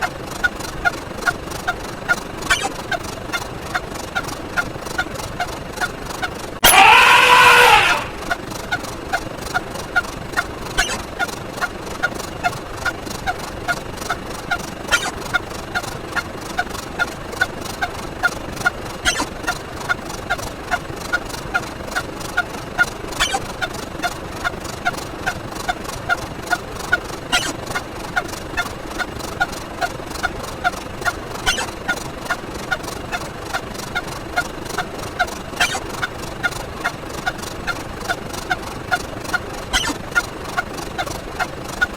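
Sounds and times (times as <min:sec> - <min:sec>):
short repeating blips: 0:00.0 - 0:41.9.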